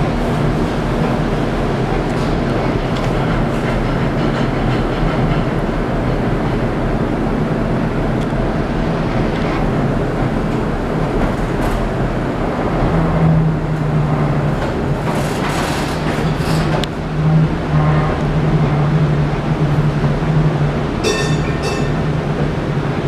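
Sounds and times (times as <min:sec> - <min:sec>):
streetcar wheels rumbling on rail: 0:00.0 - 0:23.0.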